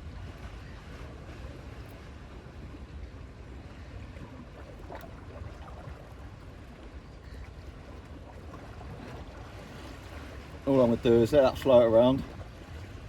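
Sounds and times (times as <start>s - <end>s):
sea water washing: 0.0s - 13.0s
wind rumbling on microphone: 0.0s - 13.0s.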